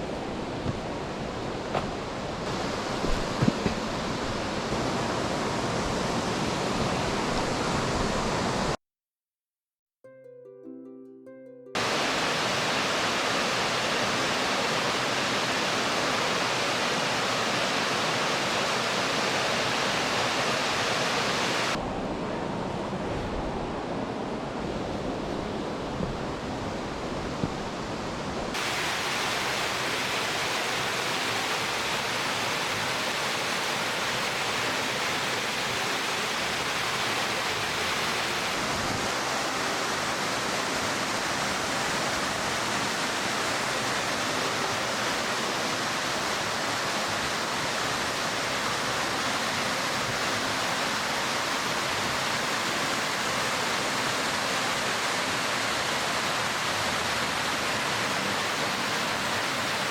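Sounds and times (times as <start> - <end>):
waterfall roaring: 0.0 - 8.8, 11.8 - 59.9.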